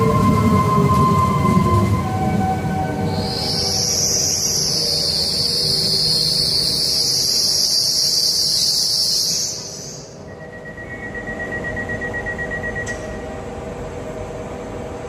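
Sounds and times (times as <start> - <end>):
train wheels squealing: 0.0 - 13.4
steady high tone: 0.0 - 13.6
train rumbling: 0.0 - 15.0.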